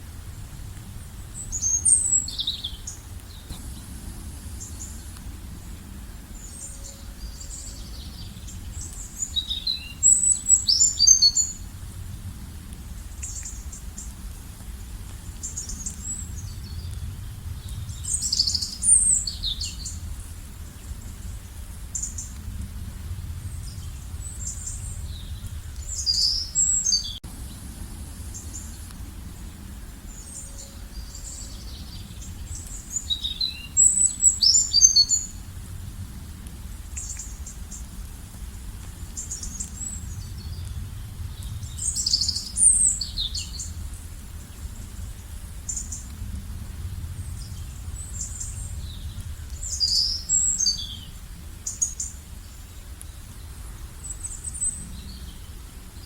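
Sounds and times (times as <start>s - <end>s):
low steady background rumble: 0.0s - 56.0s
songbirds twittering: 0.8s - 11.9s, 12.9s - 35.6s, 36.7s - 56.0s.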